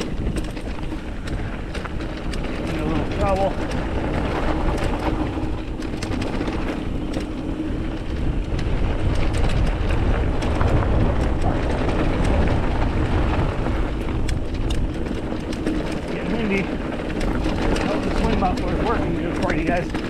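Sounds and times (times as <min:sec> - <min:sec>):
bike clicks and rattles: 0:00.0 - 0:20.0
wind buffeting microphone: 0:00.0 - 0:20.0.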